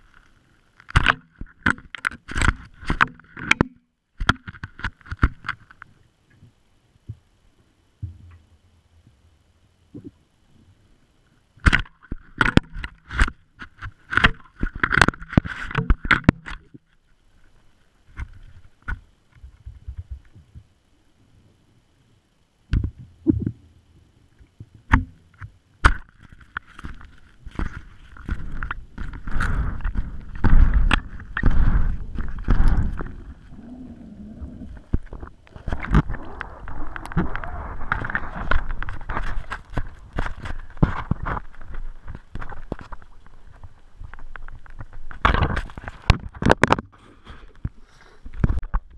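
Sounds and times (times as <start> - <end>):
underwater knocks and scraping: 0.0 - 7.2, 11.6 - 20.7, 22.7 - 23.6, 24.4 - 48.9.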